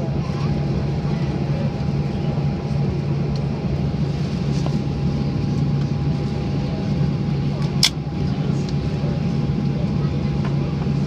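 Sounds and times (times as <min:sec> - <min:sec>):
jet engines idling hum: 0:00.0 - 0:11.0.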